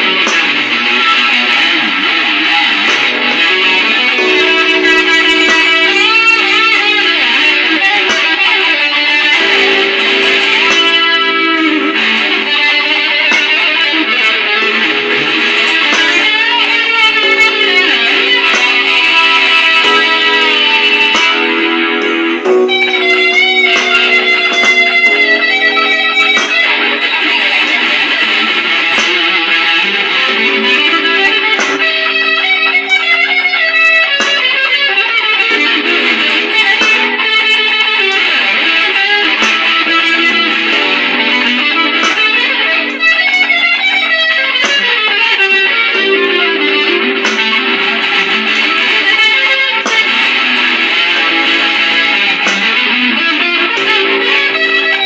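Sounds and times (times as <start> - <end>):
electric guitar blues line: 0.0 - 55.0.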